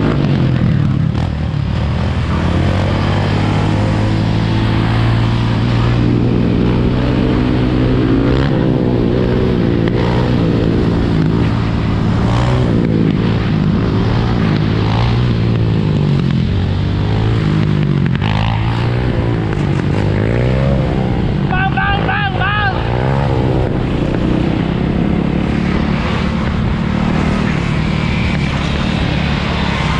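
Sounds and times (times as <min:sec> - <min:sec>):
dirt bike and quad engines revving: 0:00.0 - 0:29.9.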